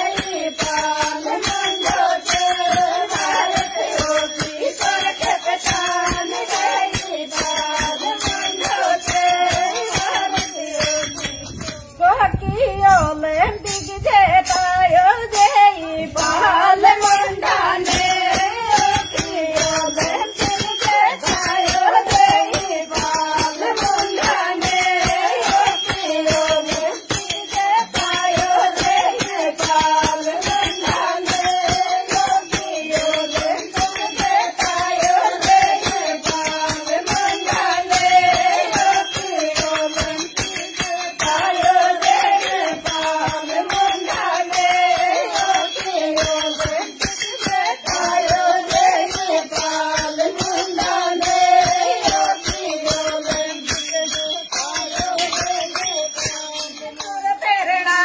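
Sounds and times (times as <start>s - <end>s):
steady jingling beat: 0.0s - 58.0s
women singing folk song: 0.0s - 58.0s.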